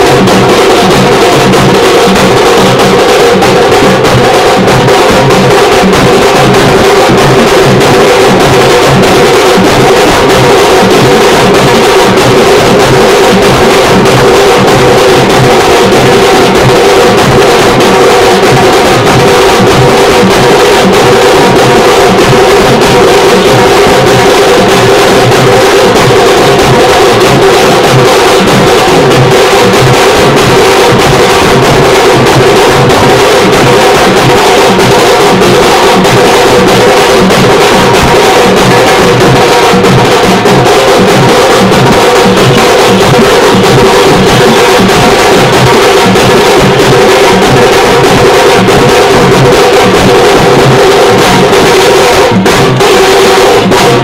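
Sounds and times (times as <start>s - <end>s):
percussion-heavy music: 0.0s - 54.0s.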